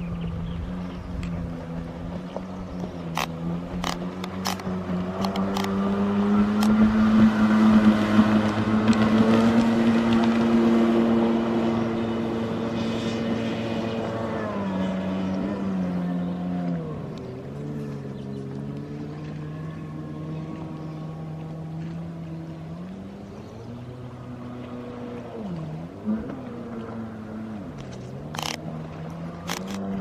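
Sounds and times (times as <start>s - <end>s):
jet ski engine running: 0.0s - 30.0s.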